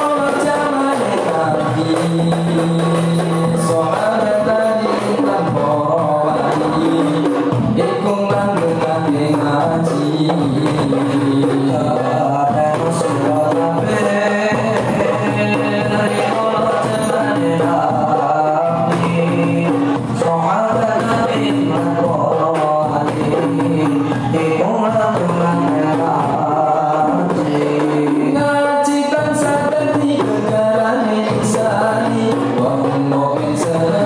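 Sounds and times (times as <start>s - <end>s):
frame drums beating: 0.0s - 34.0s
group singing: 0.0s - 34.0s.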